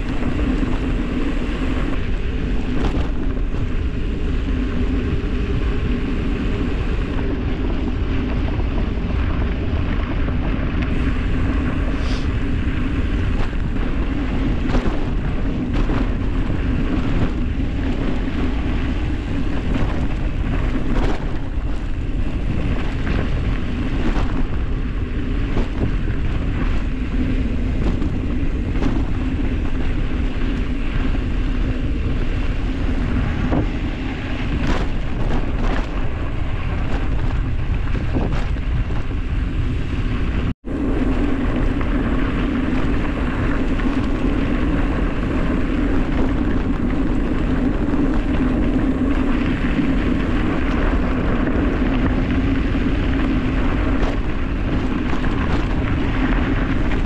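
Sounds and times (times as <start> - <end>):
tyres rolling on dirt road: 0.0 - 57.0
wind buffeting microphone: 0.0 - 57.0.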